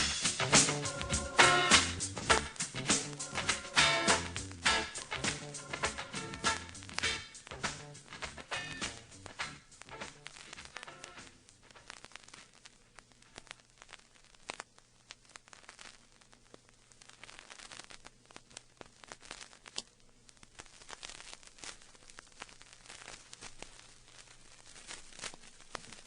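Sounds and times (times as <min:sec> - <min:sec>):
faint crackling and clicking: 0:02.2 - 0:26.0.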